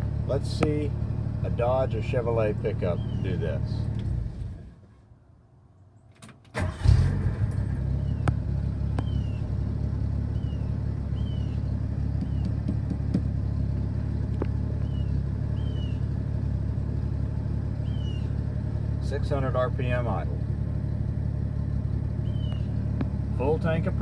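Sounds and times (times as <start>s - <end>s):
engine idling: 0.0s - 4.8s, 6.6s - 24.0s.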